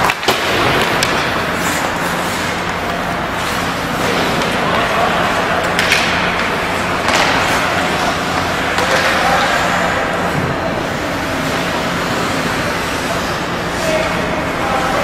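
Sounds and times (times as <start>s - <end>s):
distant voices: 0.0s - 15.0s
skates scraping ice: 0.0s - 15.0s.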